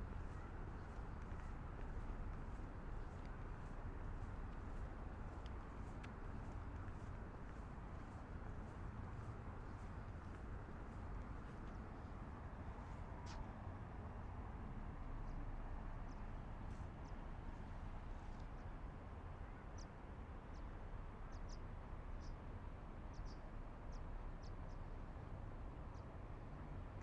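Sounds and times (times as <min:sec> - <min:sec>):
city ambience rumble: 0:00.0 - 0:27.0.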